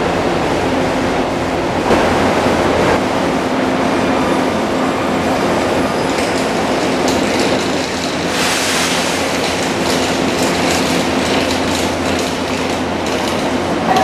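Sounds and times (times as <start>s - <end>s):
electric train hum and rumble: 0.0s - 14.0s.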